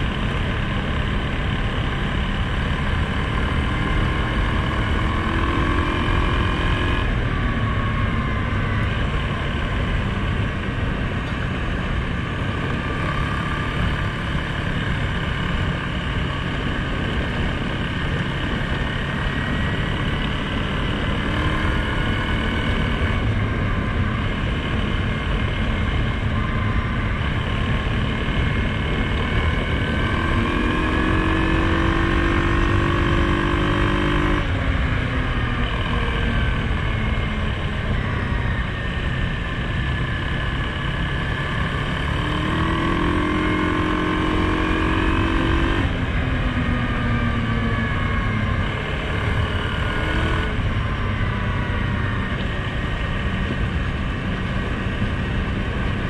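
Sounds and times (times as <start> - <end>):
quad bike engine running: 0.0 - 56.0
wind and tyre noise: 0.0 - 56.0.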